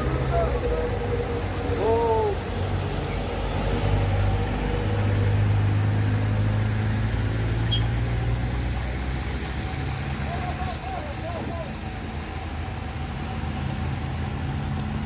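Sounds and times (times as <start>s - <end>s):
truck diesel engine under load: 0.0s - 15.0s.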